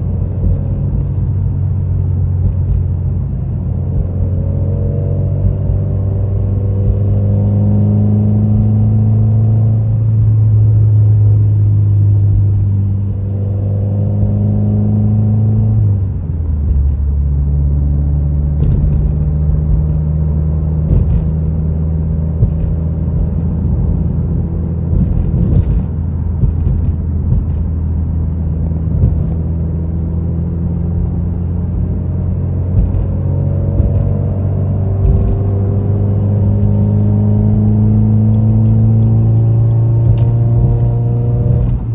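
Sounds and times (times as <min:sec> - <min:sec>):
car engine cruising from cabin: 0:00.0 - 0:41.9.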